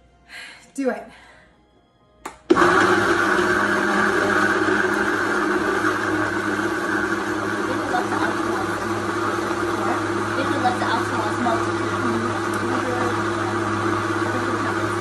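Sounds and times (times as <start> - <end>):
blender running: 2.5 - 15.0.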